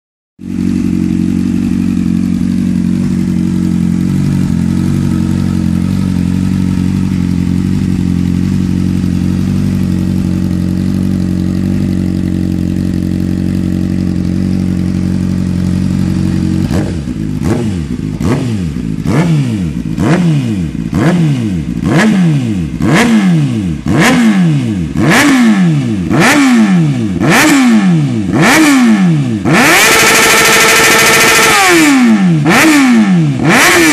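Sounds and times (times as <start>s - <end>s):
motorcycle engine idling: 0.4s - 33.9s
motorcycle engine revving: 0.4s - 33.9s.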